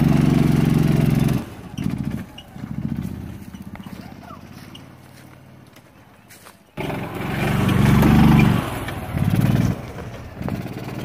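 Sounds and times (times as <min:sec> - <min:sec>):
golf cart engine revving: 0:00.0 - 0:11.0.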